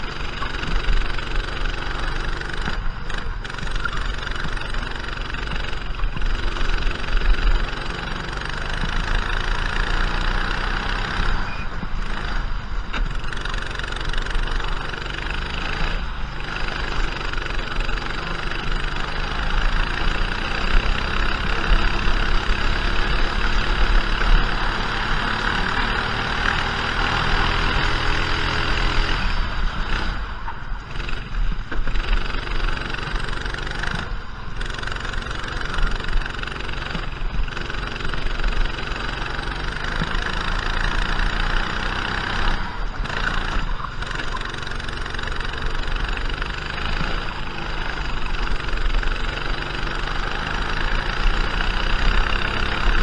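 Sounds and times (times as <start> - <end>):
kart engine revving: 0.0 - 53.0
wind and road noise: 0.0 - 53.0.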